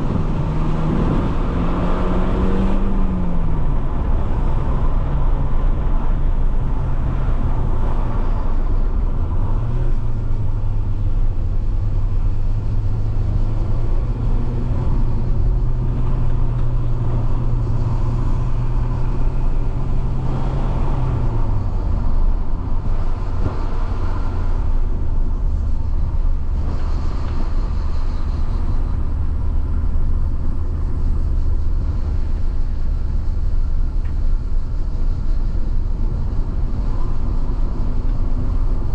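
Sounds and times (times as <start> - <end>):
car engine at high revs: 0.0 - 38.9
road and wind noise: 0.0 - 38.9.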